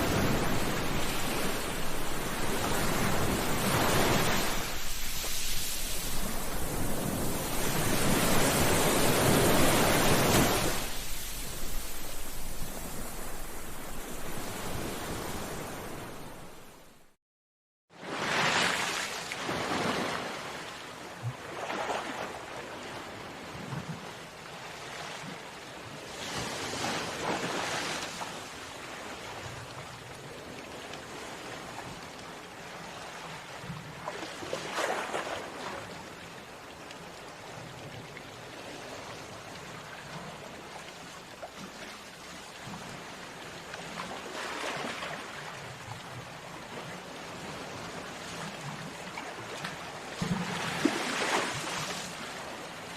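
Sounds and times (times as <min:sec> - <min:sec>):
sea waves breaking on shore: 0:00.0 - 0:17.2, 0:18.0 - 0:52.9.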